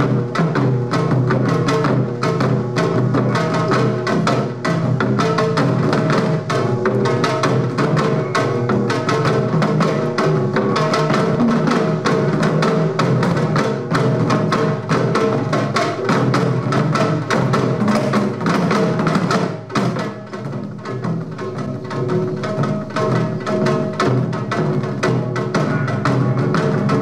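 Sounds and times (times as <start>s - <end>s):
percussion ensemble drumming: 0.0s - 27.0s.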